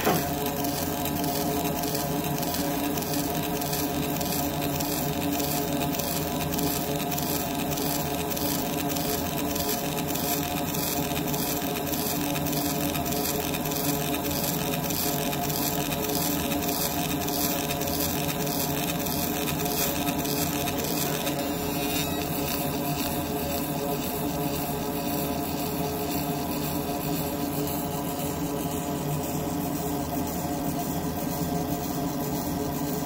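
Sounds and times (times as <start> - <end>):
laser engraver buzzing: 0.0 - 33.0.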